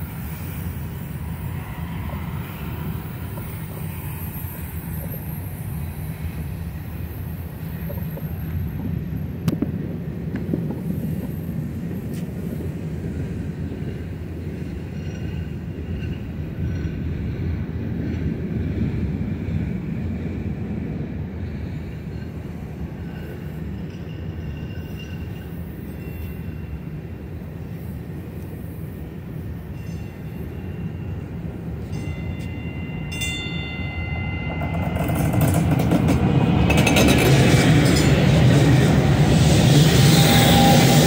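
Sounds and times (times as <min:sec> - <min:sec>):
light rail train passing: 0:00.0 - 0:41.0.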